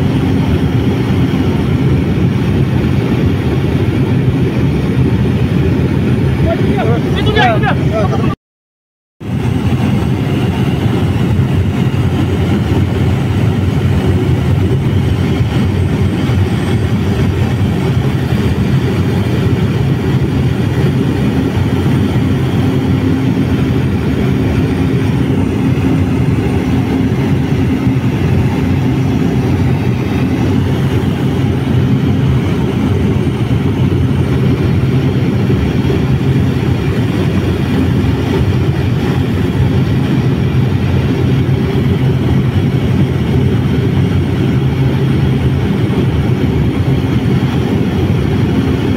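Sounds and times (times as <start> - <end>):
aircraft engine drone: 0.0 - 8.4, 9.2 - 48.9.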